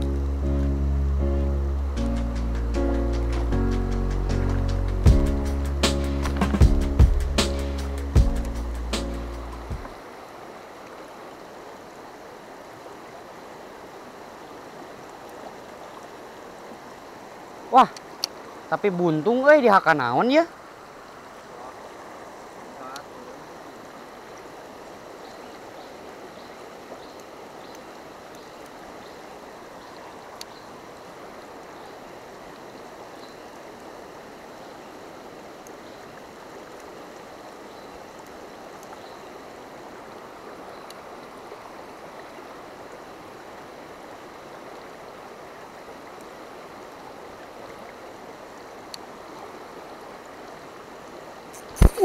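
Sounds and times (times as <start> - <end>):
river rushing over rocks: 1.6 - 52.0.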